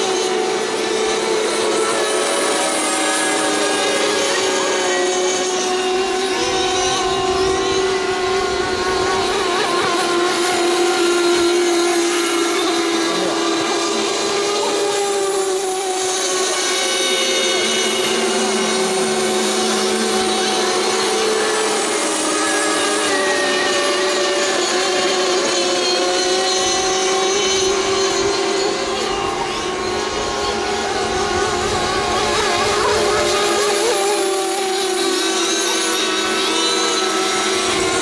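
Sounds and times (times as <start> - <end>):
model boat engines whining: 0.0 - 38.0.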